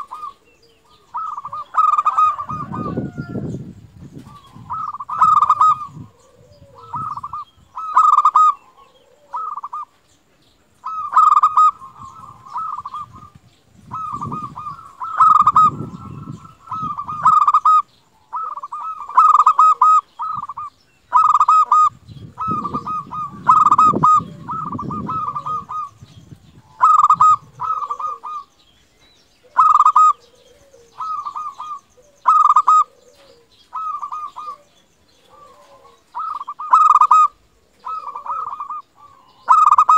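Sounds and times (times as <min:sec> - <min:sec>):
dove cooing: 0:00.0 - 0:28.6, 0:29.4 - 0:39.9.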